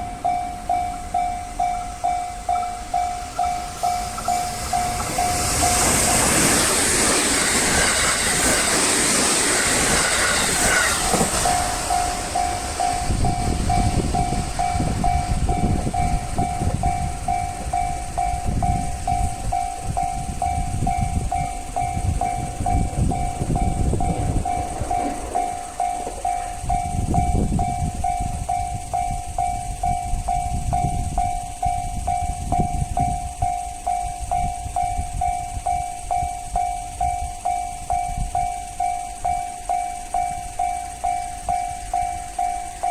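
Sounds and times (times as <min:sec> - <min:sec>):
freight train passing: 0:00.0 - 0:42.9
level crossing alarm bell: 0:00.0 - 0:42.9
low rumble of rolling stock: 0:00.0 - 0:42.9.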